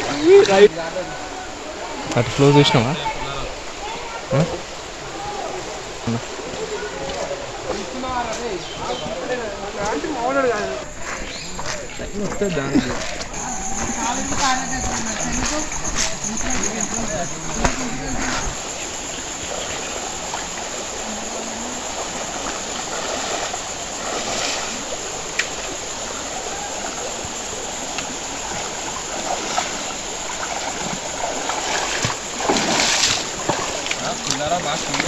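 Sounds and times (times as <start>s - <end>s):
splashes of wading: 0.0s - 35.0s
stream running over rocks: 0.0s - 35.0s.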